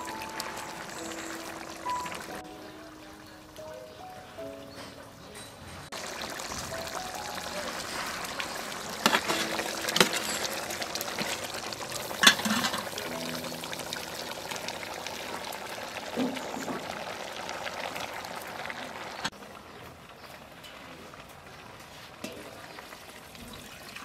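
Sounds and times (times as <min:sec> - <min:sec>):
curry boiling in a metal pot: 0:00.0 - 0:04.4, 0:05.2 - 0:24.0.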